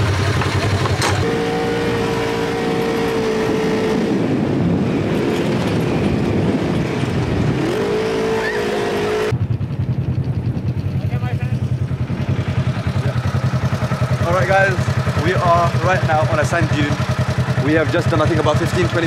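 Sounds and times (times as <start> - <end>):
dune buggy engine revving: 0.0 - 19.0.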